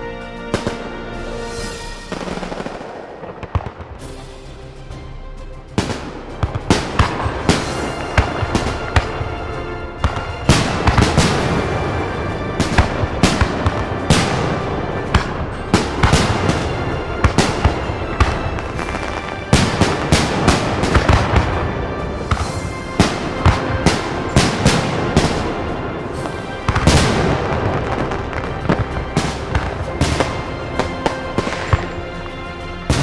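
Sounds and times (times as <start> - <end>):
fireworks and firecrackers banging: 0.3 - 4.6, 5.7 - 33.0.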